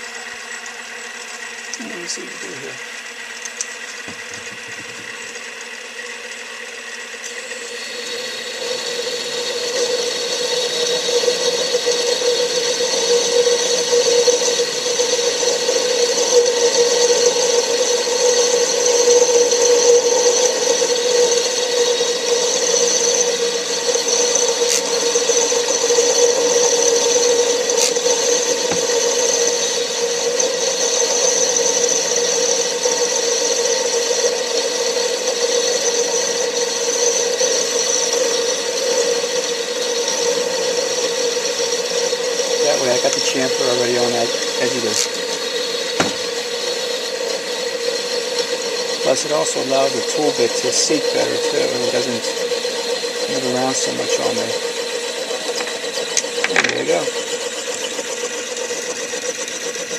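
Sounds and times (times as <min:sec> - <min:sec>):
metal lathe whining while cutting: 0:00.0 - 0:59.9.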